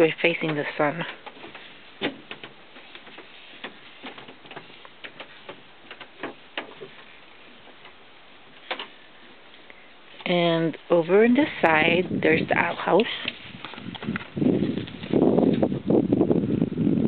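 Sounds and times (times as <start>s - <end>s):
faint steady hiss: 0.0s - 15.3s.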